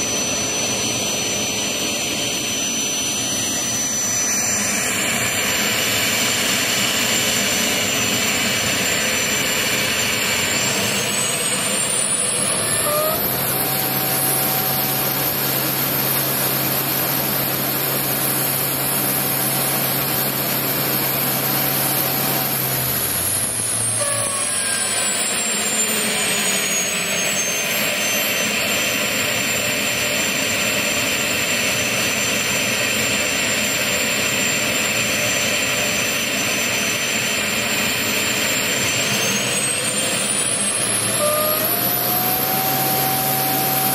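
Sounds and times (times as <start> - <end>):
gas turbine engine whining: 0.0 - 43.9.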